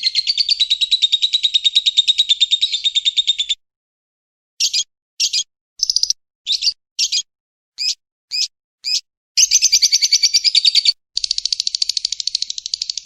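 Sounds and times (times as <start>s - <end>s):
fast rattling bird trill: 0.0s - 3.6s, 4.6s - 13.0s
shrill bird chirps: 0.0s - 3.6s, 4.6s - 13.0s.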